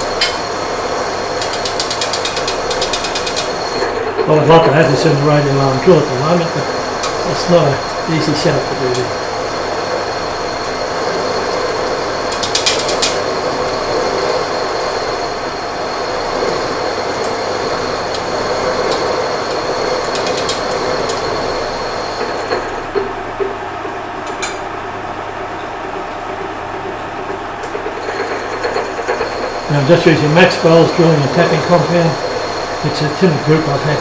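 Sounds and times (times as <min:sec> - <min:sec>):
drill bit cutting metal: 0:00.0 - 0:22.9, 0:28.0 - 0:34.0.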